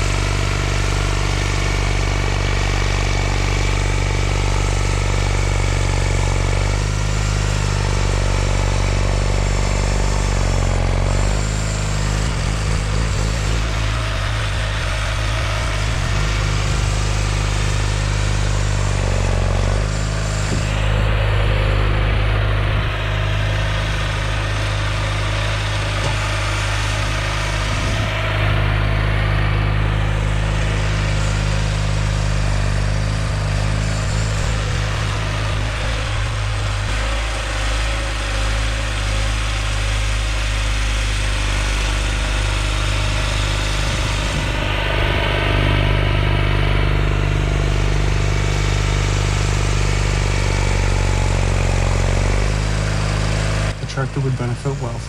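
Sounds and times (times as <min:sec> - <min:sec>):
garden tractor engine running: 0:00.0 - 0:55.0
snowblower rushing hiss: 0:00.0 - 0:55.0.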